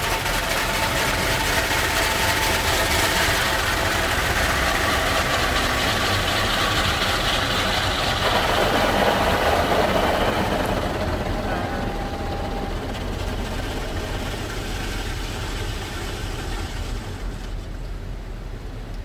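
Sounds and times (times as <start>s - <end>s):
water jets spraying on car: 0.0s - 18.2s
car wash machinery hum: 0.0s - 19.0s.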